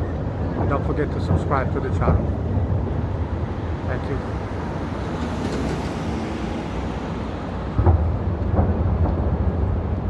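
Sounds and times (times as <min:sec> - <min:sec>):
city rumble: 0:00.0 - 0:10.0.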